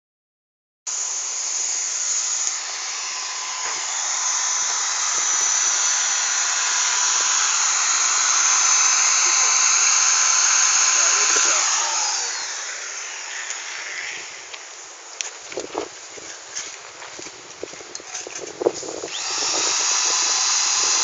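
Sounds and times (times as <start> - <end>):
power tool whirring: 0.9 - 14.8, 17.6 - 21.0.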